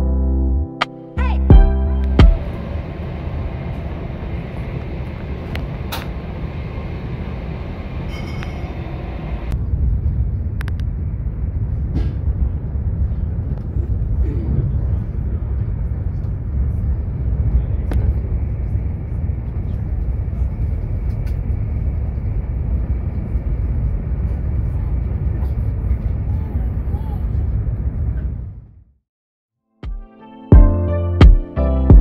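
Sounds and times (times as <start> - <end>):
train cabin rumble: 2.1 - 28.8.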